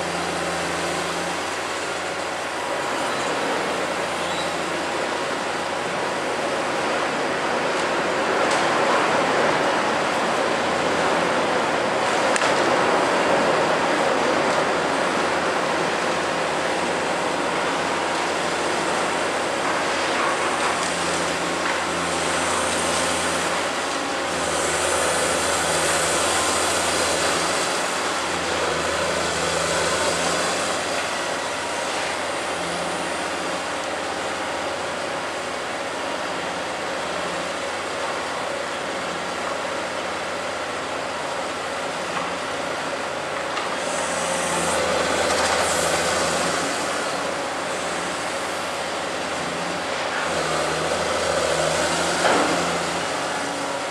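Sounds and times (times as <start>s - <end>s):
excavator diesel engine drone: 0.0s - 53.9s.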